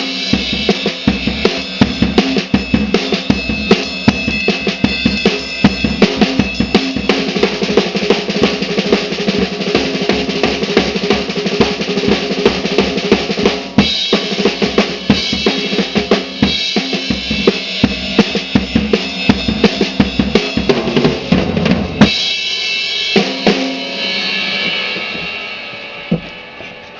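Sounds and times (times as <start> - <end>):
drum kit groove: 0.0 - 26.9.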